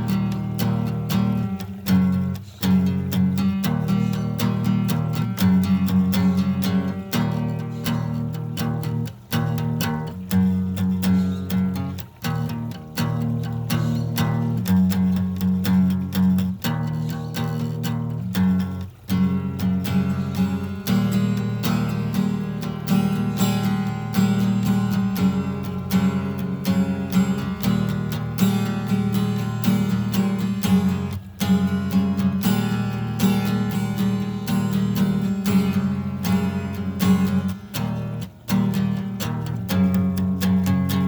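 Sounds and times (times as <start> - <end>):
acoustic guitar: 0.0 - 41.0.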